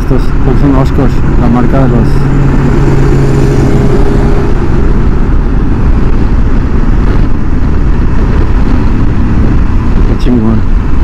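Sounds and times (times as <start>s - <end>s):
low hum: 0.0s - 11.0s
wind and road noise: 0.0s - 11.0s.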